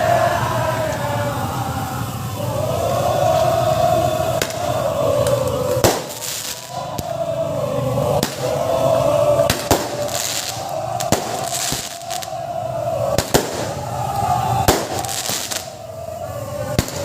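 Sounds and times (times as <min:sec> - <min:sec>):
steady background din: 0:00.0 - 0:17.0
fireworks banging: 0:03.3 - 0:17.0.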